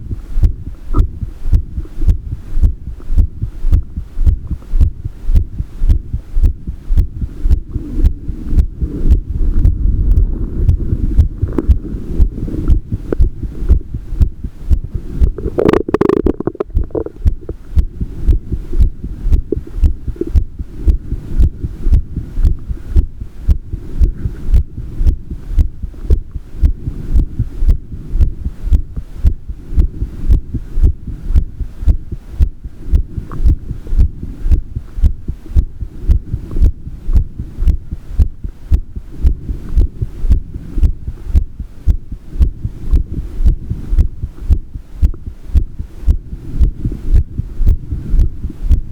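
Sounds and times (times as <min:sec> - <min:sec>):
heart beating: 0:00.0 - 0:48.9
low hum: 0:00.0 - 0:48.9.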